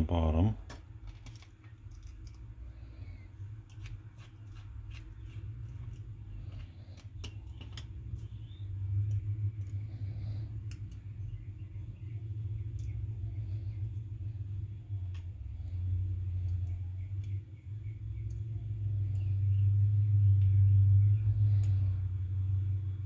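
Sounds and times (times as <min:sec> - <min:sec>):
low steady hum: 0:00.0 - 0:23.0
light clicks of small metal pins: 0:00.6 - 0:02.7, 0:03.6 - 0:22.6.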